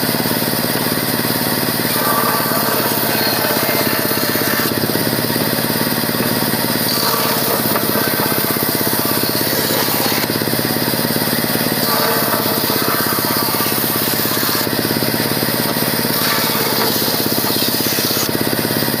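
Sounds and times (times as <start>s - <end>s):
power tool rattling: 0.0s - 19.0s.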